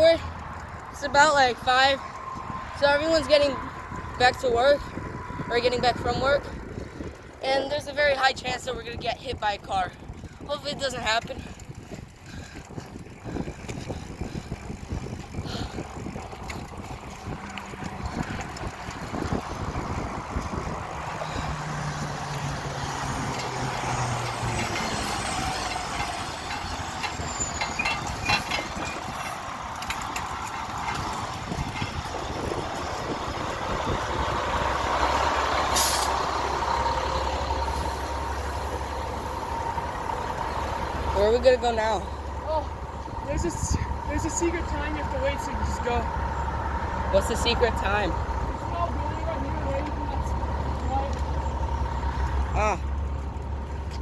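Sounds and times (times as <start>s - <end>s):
road traffic: 0.0s - 54.0s
vehicle engine hum: 0.0s - 54.0s
wind buffeting microphone: 0.0s - 54.0s.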